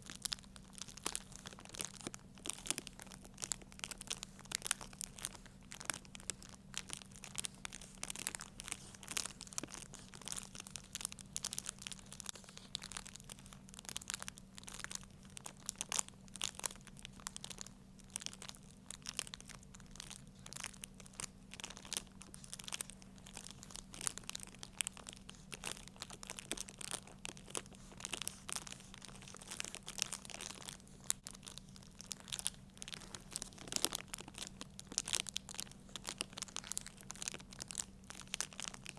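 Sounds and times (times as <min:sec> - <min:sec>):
material crinkling and crumpling: 0:00.0 - 0:38.9
steady low hum: 0:00.0 - 0:38.9.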